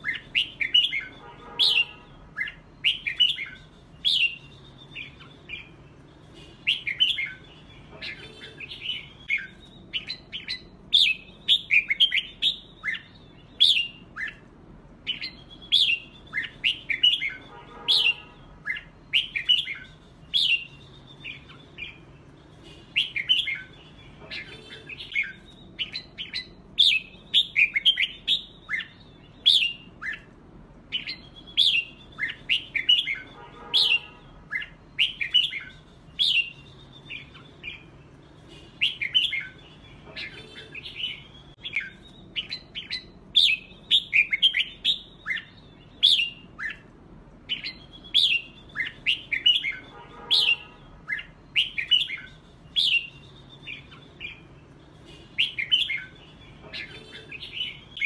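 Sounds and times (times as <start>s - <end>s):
birds whistling song phrases: 0.0s - 58.0s.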